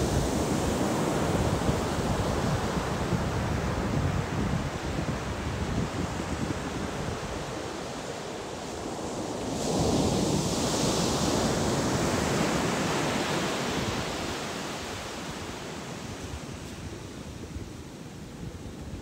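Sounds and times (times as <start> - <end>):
ocean surf on beach: 0.0 - 19.0.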